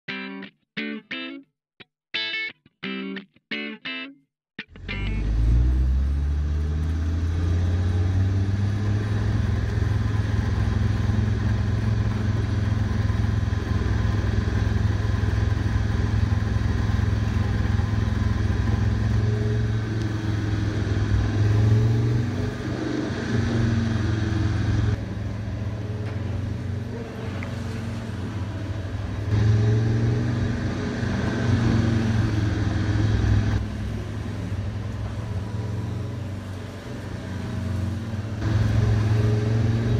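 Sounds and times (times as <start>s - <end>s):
engine running: 4.7s - 39.9s.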